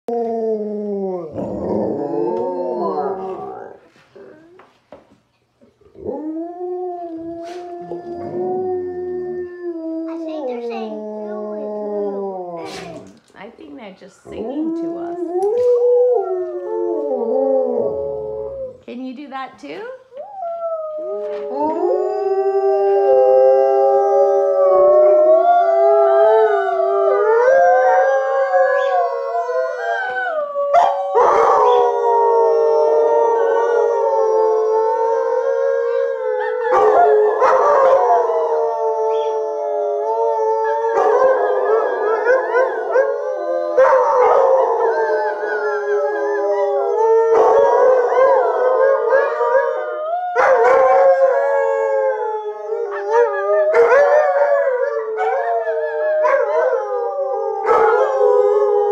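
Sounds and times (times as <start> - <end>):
dogs howling in chorus: 0.1 - 4.4, 6.0 - 13.2, 14.3 - 18.8, 20.3 - 58.9.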